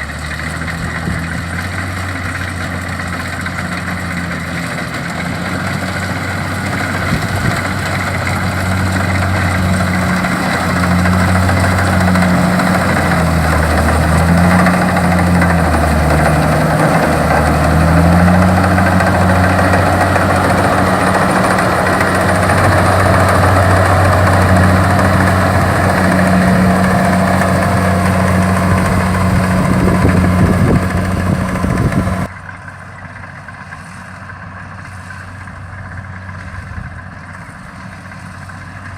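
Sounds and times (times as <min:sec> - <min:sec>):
threshing machinery hiss and rattle: 0:00.0 - 0:32.3
diesel engine running: 0:00.0 - 0:38.9.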